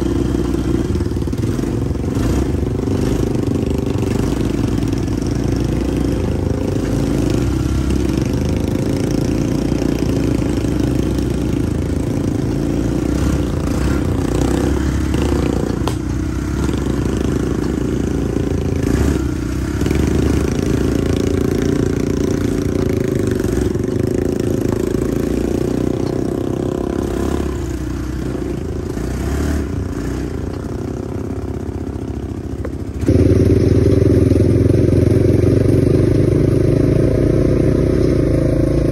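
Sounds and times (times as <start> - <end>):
atv engine running: 0.0 - 38.9
rattle from riding on gravel: 0.1 - 37.0.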